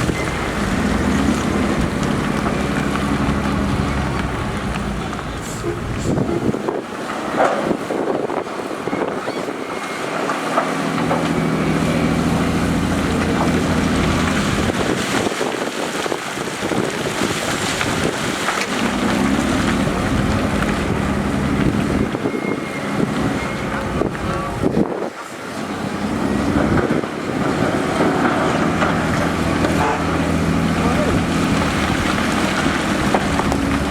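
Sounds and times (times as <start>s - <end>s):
heavy diesel machinery engine: 0.0s - 33.9s.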